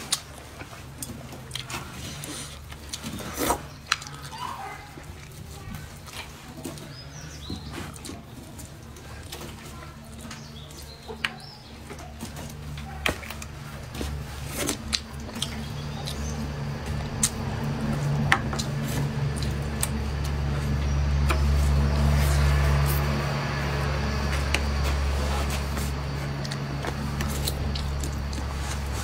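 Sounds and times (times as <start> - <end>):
mouth clicks and smacks chewing: 0.0 - 29.0
steady low hum: 0.0 - 29.0.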